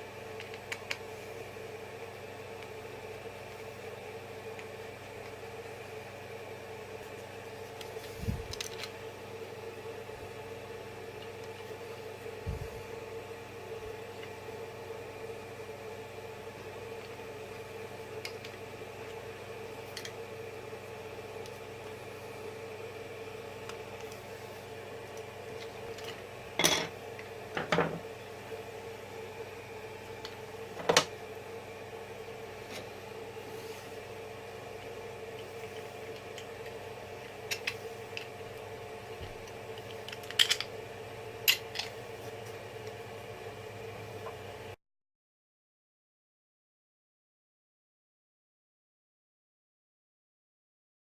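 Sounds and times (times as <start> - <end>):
machine hum: 0.0 - 44.8.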